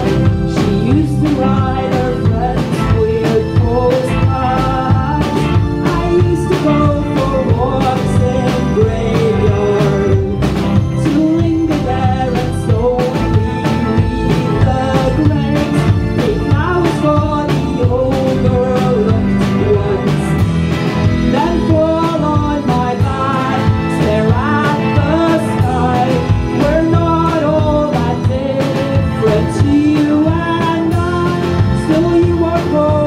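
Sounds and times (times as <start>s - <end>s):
woman singing: 0.0s - 20.5s, 21.2s - 33.0s
drum kit steady beat: 0.0s - 33.0s
live pop band playing: 0.0s - 33.0s.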